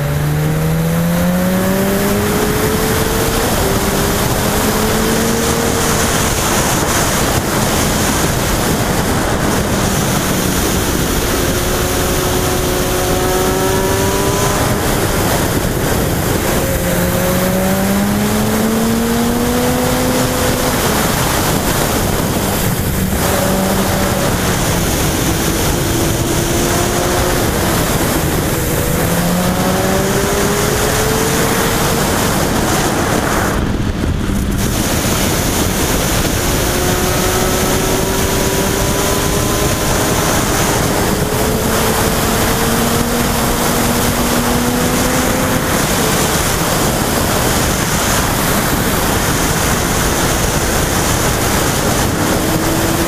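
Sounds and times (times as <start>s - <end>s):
motorcycle engine accelerating: 0.0s - 53.0s
wind noise on microphone: 0.0s - 53.0s.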